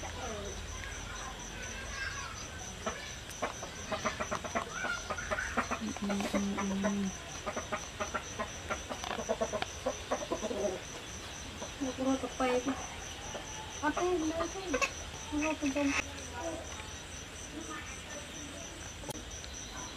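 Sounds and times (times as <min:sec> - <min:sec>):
faint insect chirping: 0:00.0 - 0:19.9.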